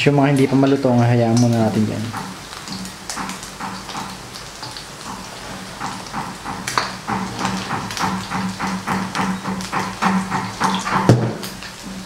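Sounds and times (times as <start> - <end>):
chicken skins frying: 0.0 - 12.0.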